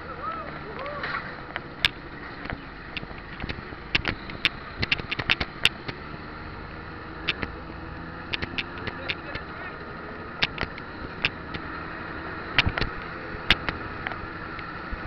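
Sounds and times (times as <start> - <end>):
road and engine rumble: 0.0 - 15.0
sharp clicks and rattles: 0.8 - 6.2, 7.1 - 15.0.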